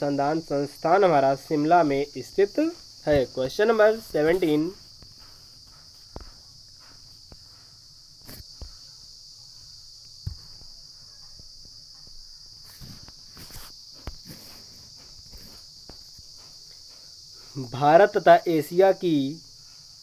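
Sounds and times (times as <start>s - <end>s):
faint high-pitched hissing drone: 0.0s - 20.0s.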